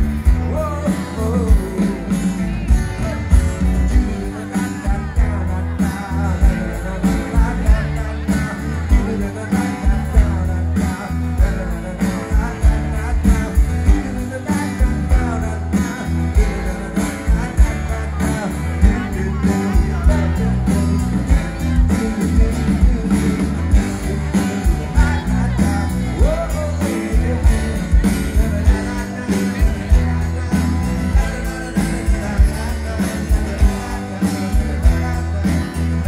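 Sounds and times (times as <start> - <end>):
acoustic guitar: 0.0 - 36.0
bass guitar: 0.0 - 36.0
man singing: 0.0 - 36.0
steady drum beat: 0.0 - 36.0.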